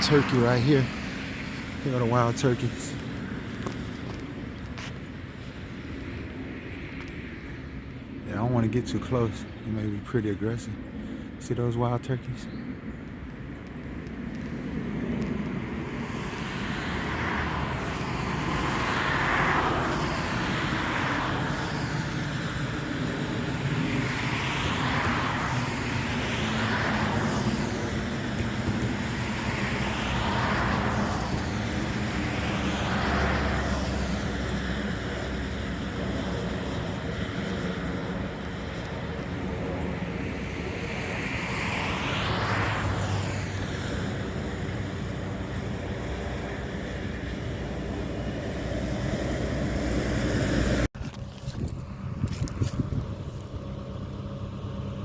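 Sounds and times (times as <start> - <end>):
cars passing: 0.0 - 55.0
steady traffic hum: 0.0 - 55.0.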